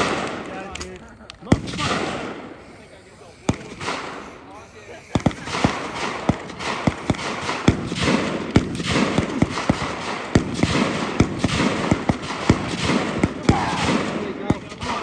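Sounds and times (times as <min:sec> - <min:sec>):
gunshots: 0:00.0 - 0:15.0.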